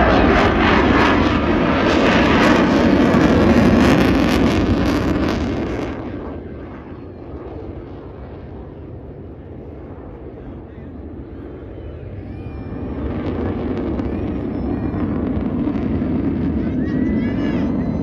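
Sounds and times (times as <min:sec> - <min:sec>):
fighter jet passing overhead: 0:00.0 - 0:18.0.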